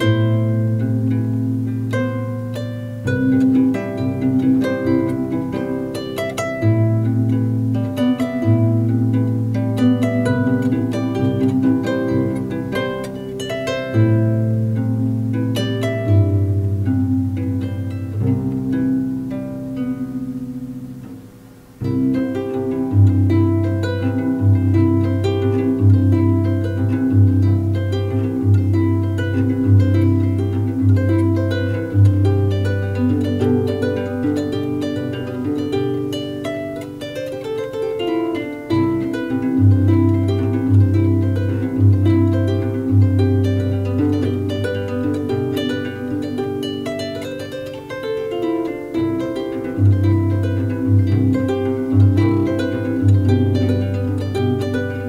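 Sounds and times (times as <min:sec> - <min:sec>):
plucked harp melody: 0:00.0 - 0:55.0.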